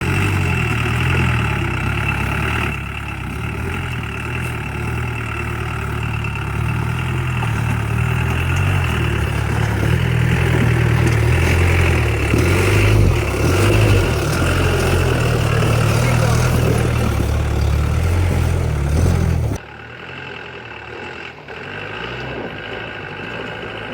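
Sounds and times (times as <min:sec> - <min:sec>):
jeep engine running: 0:00.0 - 0:23.9.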